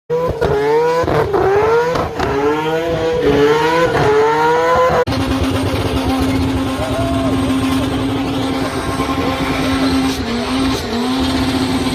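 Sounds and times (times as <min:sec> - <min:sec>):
rotary engine revving: 0:00.1 - 0:11.9.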